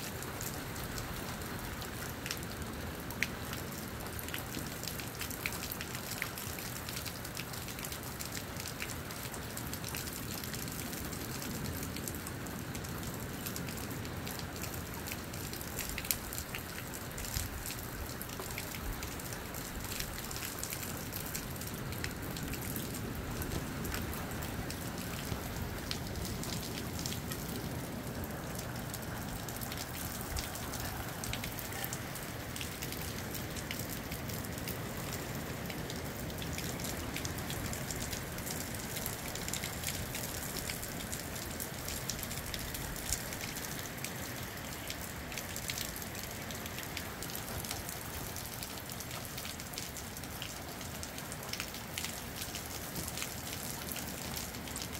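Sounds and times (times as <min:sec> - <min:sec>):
rain falling: 0:00.0 - 0:54.9
raindrops ticking: 0:00.0 - 0:54.9.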